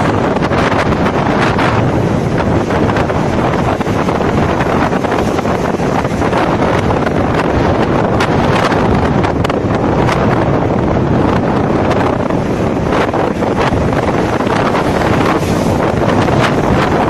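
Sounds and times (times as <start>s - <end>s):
sea waves on shore: 0.0s - 17.0s
wind buffeting microphone: 0.0s - 17.0s.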